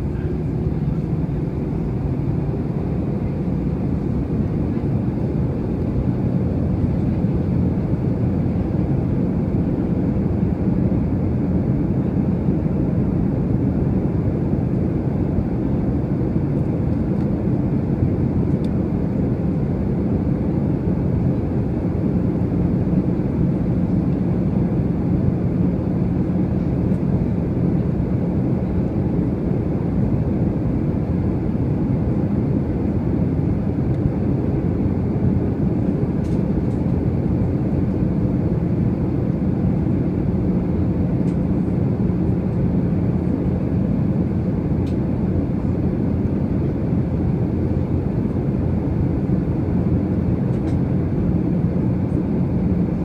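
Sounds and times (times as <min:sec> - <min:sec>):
jet engine hum: 0:00.0 - 0:53.0.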